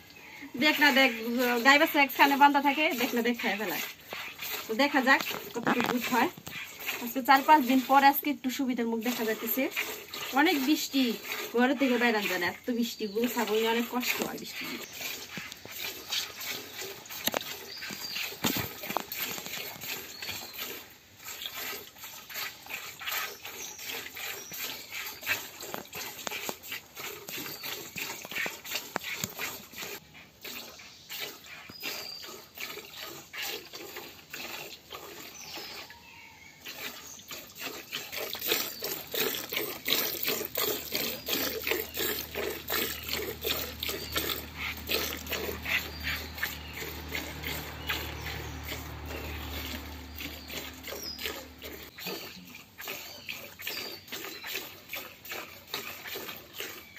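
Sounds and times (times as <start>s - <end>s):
milk squirting into bucket: 0.0s - 56.9s.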